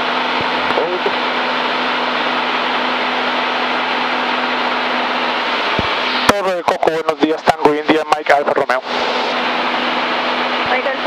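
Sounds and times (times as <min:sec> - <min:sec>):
light aircraft cabin engine drone: 0:00.0 - 0:11.0.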